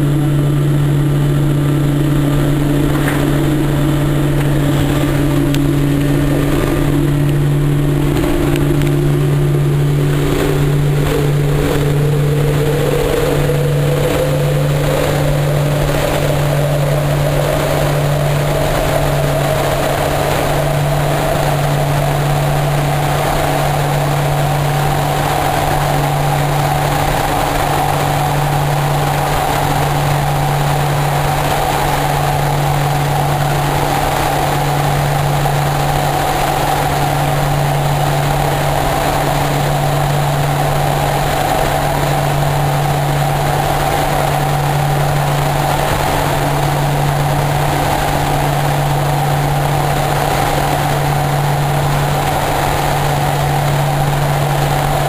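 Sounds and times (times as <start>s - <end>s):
rising high tone: 0.0s - 50.2s
turboprop engines droning: 0.0s - 55.0s.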